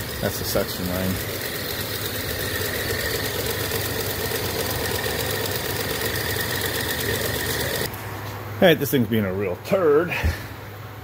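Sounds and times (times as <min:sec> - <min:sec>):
compressor and fan hum: 0:00.0 - 0:11.0.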